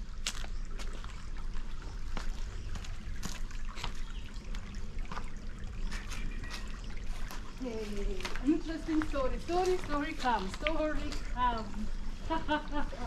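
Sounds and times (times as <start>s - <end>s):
water trickling over rocks: 0.0s - 13.0s.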